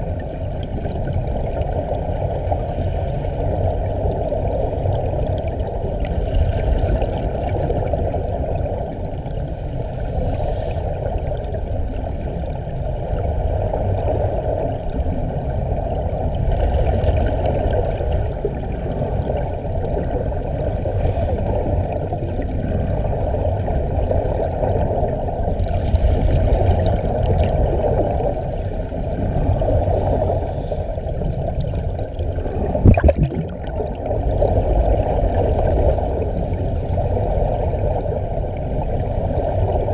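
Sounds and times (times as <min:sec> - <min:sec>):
underwater air bubbles rushing: 0:00.0 - 0:10.0, 0:11.0 - 0:39.9.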